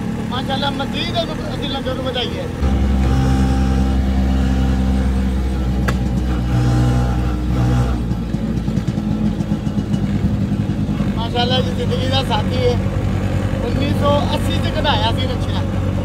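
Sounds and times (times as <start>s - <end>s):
auto rickshaw engine running: 0.0s - 16.0s.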